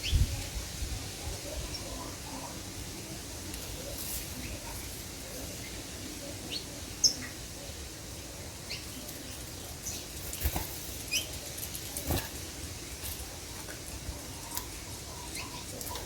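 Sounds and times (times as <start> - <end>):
small songbirds chirping: 1.2 - 16.0.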